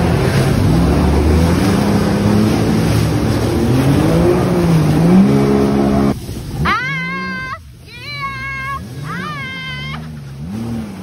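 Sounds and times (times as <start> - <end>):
jet ski engine running: 0.0 - 11.0
rushing wind and water: 0.0 - 11.0.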